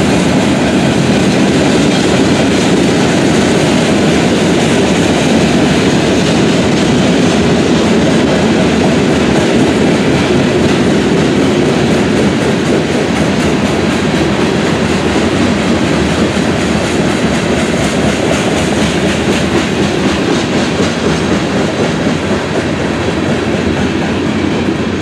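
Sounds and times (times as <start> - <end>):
train wheels rumbling: 0.0 - 25.0
wheels clacking over rail joints: 0.0 - 25.0.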